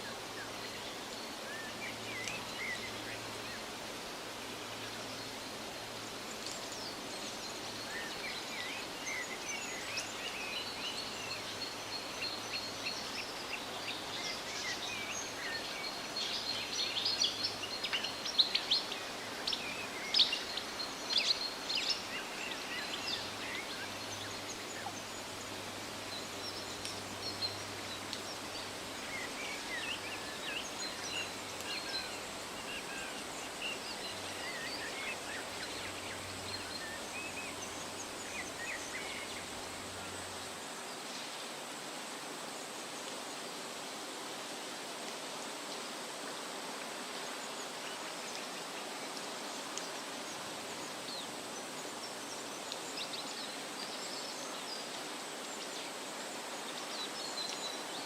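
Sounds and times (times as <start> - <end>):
songbirds chirping: 0.0 - 58.0
wind rustling leaves: 0.0 - 58.0.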